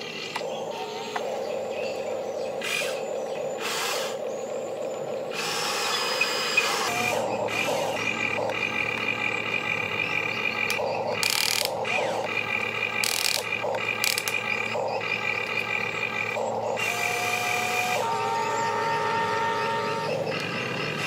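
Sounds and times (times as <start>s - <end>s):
toy excavator motors whining: 0.0s - 21.0s.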